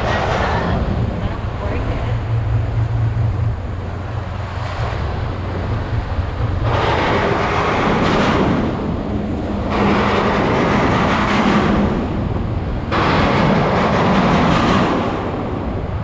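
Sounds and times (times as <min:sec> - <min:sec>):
boat engine humming: 0:00.0 - 0:16.0
wind and water rushing: 0:00.0 - 0:16.0.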